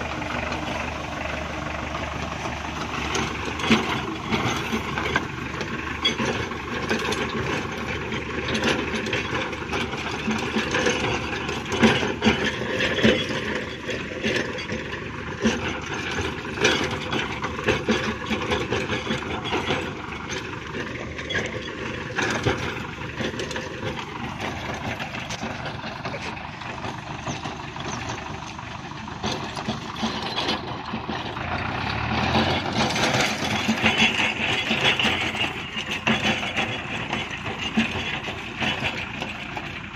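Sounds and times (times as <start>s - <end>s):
tiller blades clattering: 0.0s - 39.9s
tractor engine under load: 0.0s - 39.9s.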